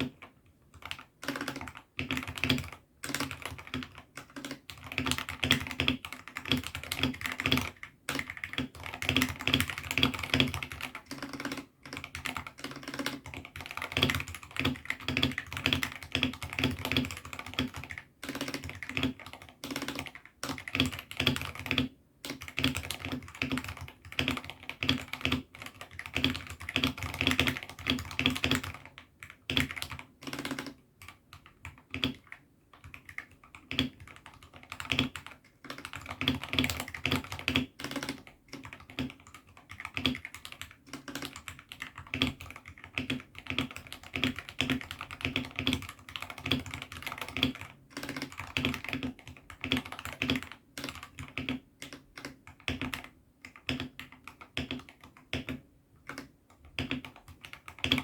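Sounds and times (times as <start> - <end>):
typing on mechanical keyboard: 0.0 - 58.0.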